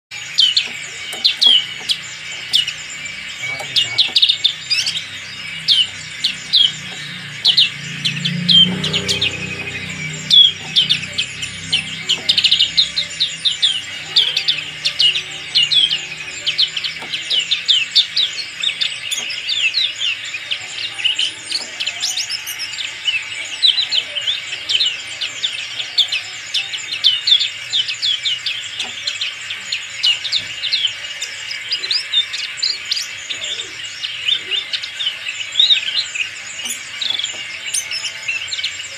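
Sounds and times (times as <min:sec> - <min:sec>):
bird singing high chirps: 0:00.1 - 0:38.9.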